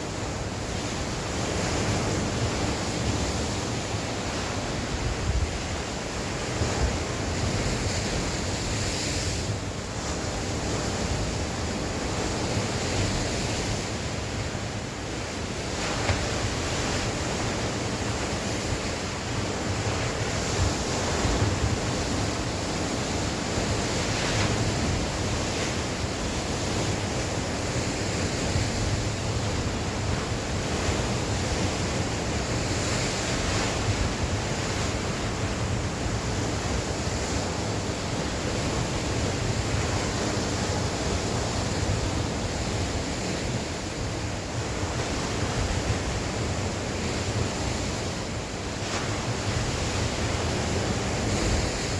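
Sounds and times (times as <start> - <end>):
sea waves washing on shore: 0.0 - 51.9
wind blowing on microphone: 0.0 - 51.9.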